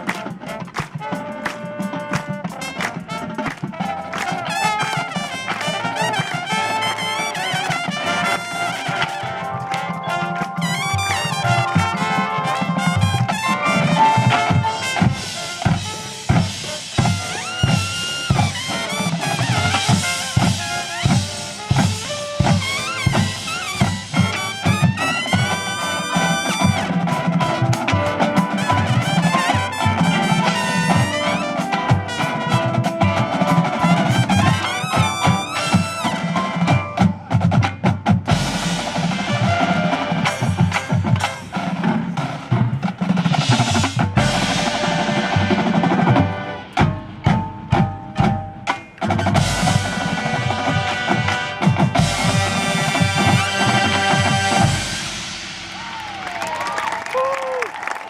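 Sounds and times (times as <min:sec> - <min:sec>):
music with drums and percussion: 0:00.0 - 0:58.0.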